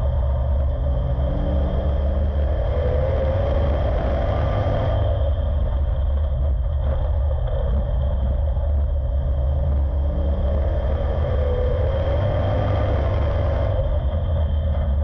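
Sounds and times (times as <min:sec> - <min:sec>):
race car engine: 0:00.0 - 0:15.0.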